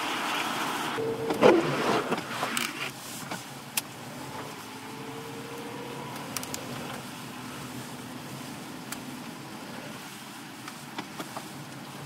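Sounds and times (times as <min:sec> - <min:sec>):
car and wind noise: 0:00.0 - 0:12.0.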